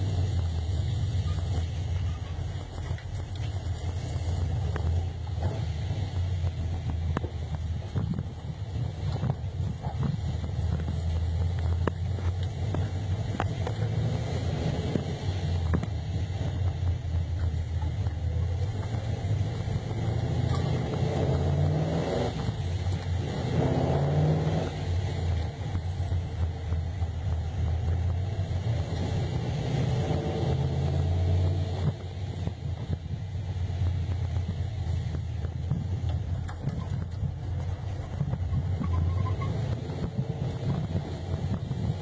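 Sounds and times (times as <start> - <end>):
car engine rumble accelerating: 0.0 - 42.0.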